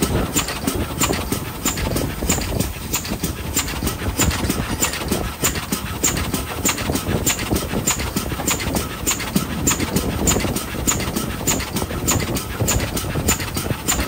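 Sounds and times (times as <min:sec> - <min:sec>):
steam locomotive chuffing: 0:00.0 - 0:14.0
train running on rails: 0:00.0 - 0:14.0.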